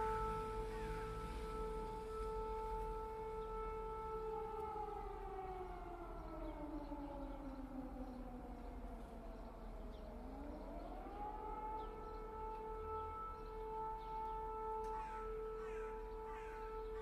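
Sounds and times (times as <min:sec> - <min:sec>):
civil defense siren wailing: 0:00.0 - 0:17.0.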